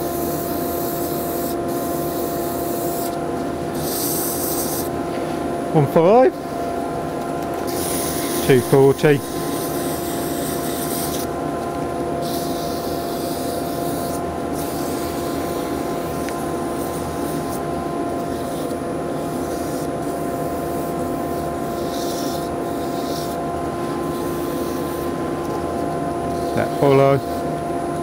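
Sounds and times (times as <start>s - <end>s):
sandpaper hissing on spinning wood: 0.0s - 4.9s, 7.7s - 11.3s, 12.2s - 25.2s, 26.3s - 27.5s
machinery humming: 1.5s - 28.0s.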